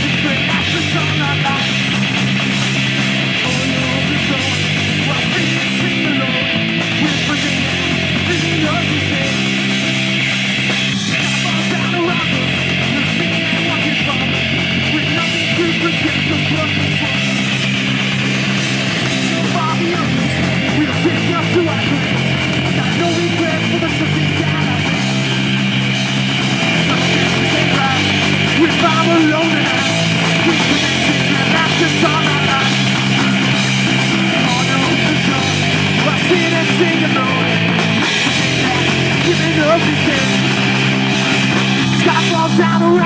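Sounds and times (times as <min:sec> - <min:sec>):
distorted electric guitar: 0:00.0 - 0:43.0
drum kit: 0:00.0 - 0:43.0
electric bass: 0:00.0 - 0:43.0.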